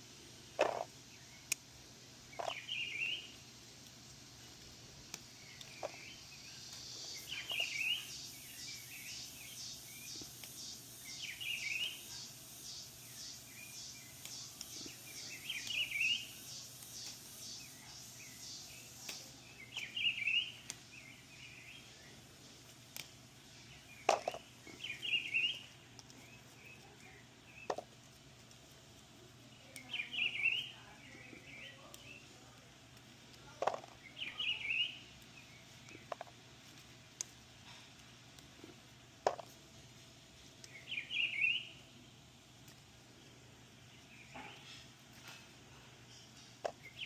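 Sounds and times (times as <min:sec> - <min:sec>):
songbird singing: 0:00.5 - 0:47.0.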